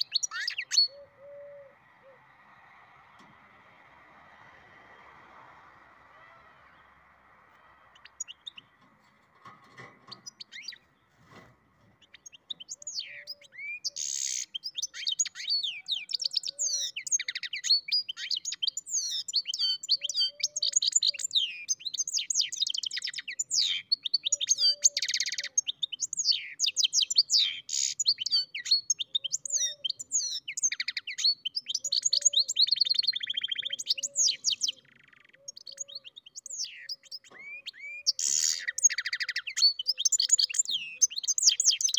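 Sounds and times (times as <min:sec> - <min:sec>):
bird twittering song: 0:00.0 - 0:02.3, 0:07.9 - 0:09.0, 0:10.0 - 0:41.9.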